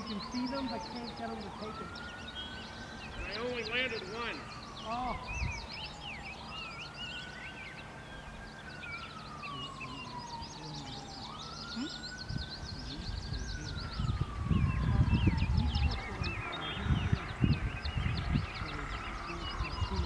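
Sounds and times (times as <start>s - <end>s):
emergency vehicle siren wailing: 0.0s - 20.0s
small birds chirping: 0.0s - 20.0s.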